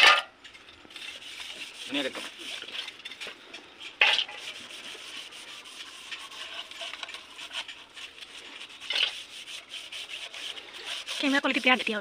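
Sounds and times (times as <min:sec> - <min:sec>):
scraping on bamboo: 0:00.0 - 0:12.0.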